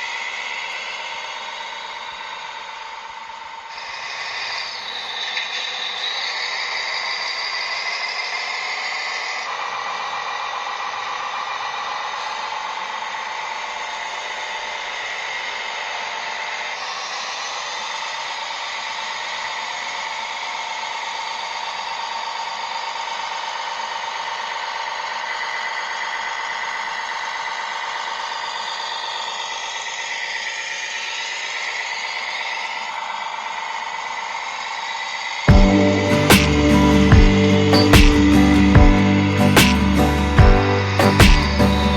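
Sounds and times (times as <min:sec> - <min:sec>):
small electric motors whining: 0:00.0 - 0:41.9.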